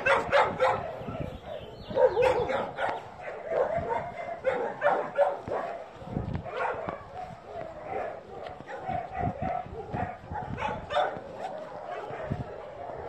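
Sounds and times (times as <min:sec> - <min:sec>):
dogs barking and yipping: 0:00.0 - 0:13.0.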